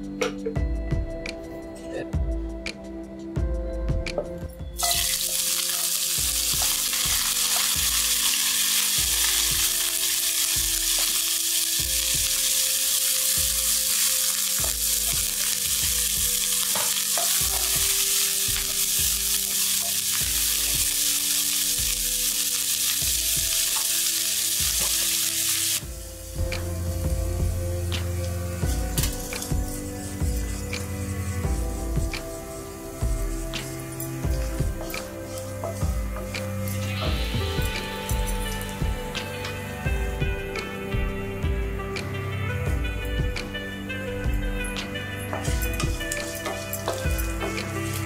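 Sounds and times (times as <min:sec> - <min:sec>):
onions sizzling in hot oil: 0:04.8 - 0:41.4, 0:42.7 - 0:48.0.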